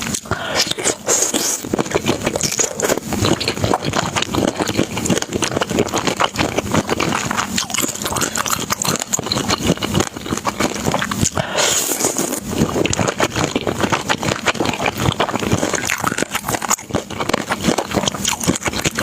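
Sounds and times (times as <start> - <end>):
wet chewing clicks and smacks: 0.0 - 19.0.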